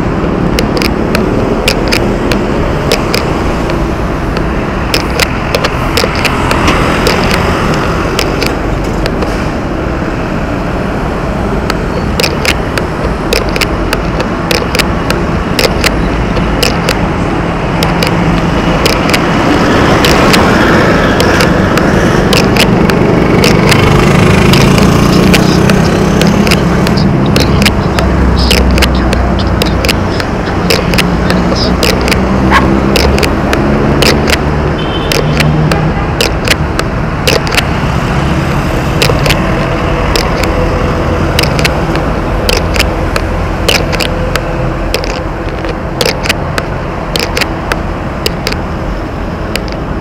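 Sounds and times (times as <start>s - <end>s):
tyre and wind noise: 0.0s - 50.0s
bike clicks and rattles: 0.4s - 9.3s, 11.7s - 17.0s, 17.8s - 37.7s, 38.8s - 48.6s, 49.6s - 49.9s.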